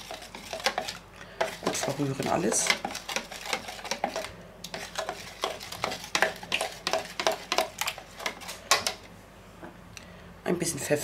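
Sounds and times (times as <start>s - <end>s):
utensil scraping plastic jug: 0.0s - 8.9s.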